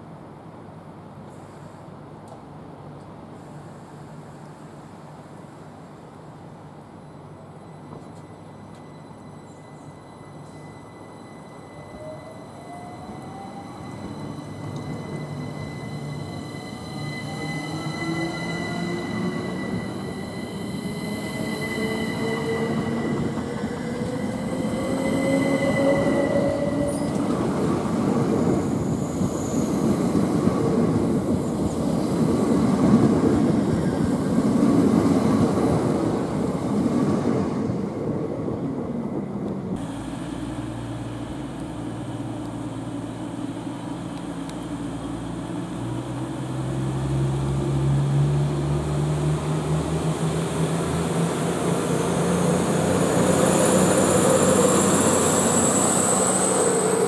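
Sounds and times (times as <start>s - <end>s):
low steady train hum: 0.0s - 57.0s
train wheels rumbling on track: 2.2s - 57.0s.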